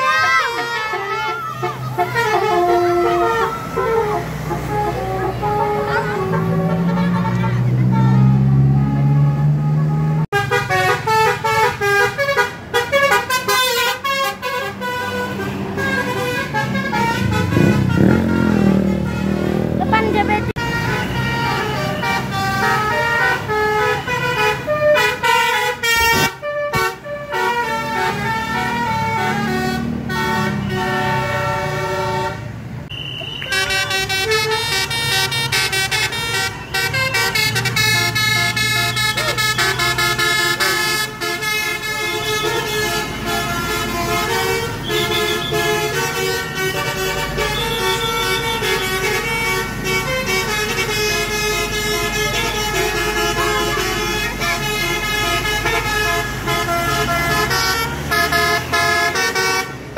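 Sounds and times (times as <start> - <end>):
multi-tone bus horns playing tune: 0.0 - 59.9.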